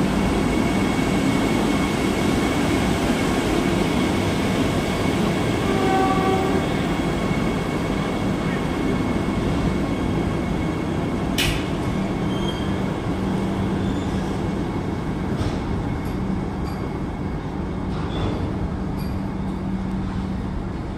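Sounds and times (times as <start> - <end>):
electric train rolling past: 0.0 - 20.9.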